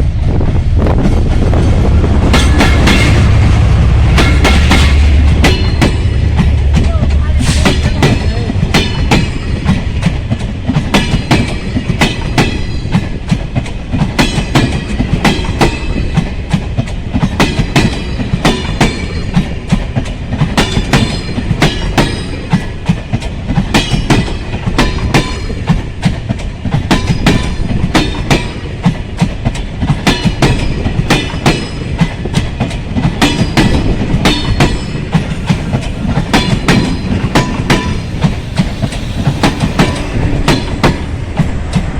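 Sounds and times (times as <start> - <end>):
train wheels clattering over rail joints: 0.9 - 41.9.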